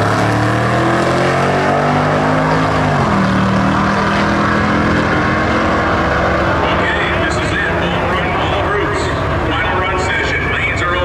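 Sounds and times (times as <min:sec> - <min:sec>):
drag racing cars at full throttle: 0:00.0 - 0:11.0.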